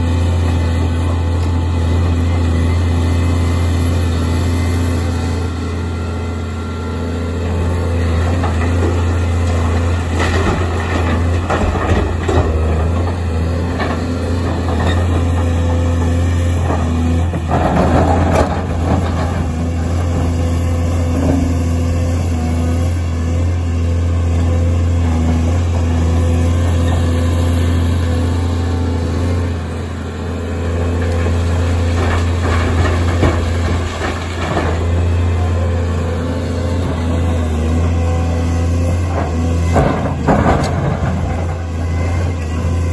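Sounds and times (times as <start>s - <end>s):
excavator diesel engine drone: 0.0s - 42.9s.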